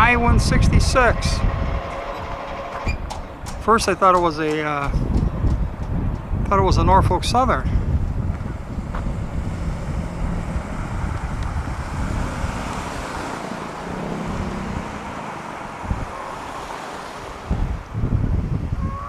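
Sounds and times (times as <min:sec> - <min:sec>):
freight train rumbling by: 0:00.0 - 0:18.9
wind buffeting microphone: 0:00.0 - 0:19.0.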